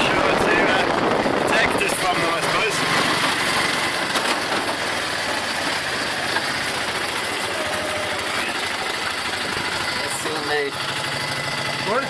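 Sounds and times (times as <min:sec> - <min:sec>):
small engine chattering: 0:01.5 - 0:12.0.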